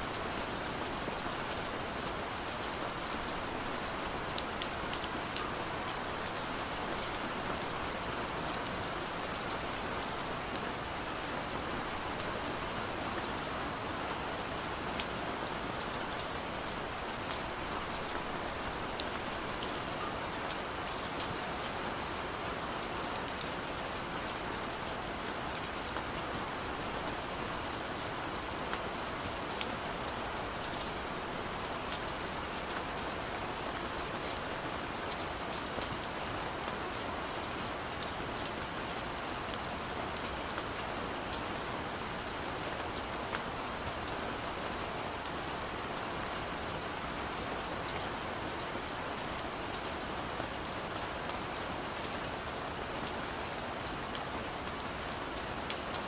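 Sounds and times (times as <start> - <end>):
gentle rain falling: 0.0 - 56.0.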